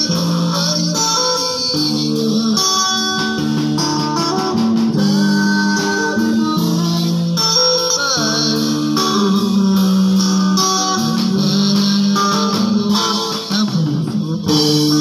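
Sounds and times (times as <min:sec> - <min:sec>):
drum kit and cymbals: 0:00.0 - 0:15.0
electric guitar melody: 0:00.0 - 0:15.0.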